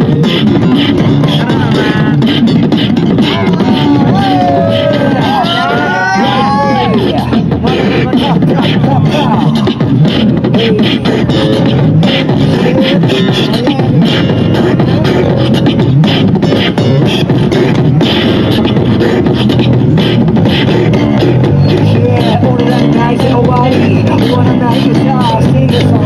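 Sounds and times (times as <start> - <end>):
electric bass guitar: 0.0 - 26.0
percussive beat: 0.0 - 26.0.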